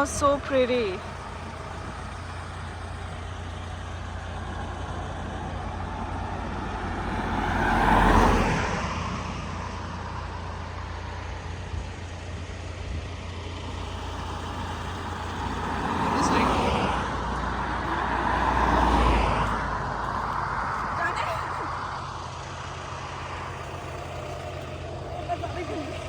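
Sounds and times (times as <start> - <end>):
steady low rumble: 0.0 - 7.4, 8.6 - 26.0
vehicle passing by: 0.0 - 11.2, 13.5 - 26.0.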